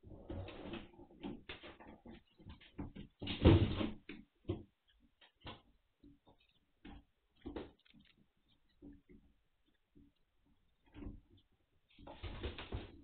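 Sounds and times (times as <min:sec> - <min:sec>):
puppy paws knocking and scraping: 0:00.1 - 0:13.0.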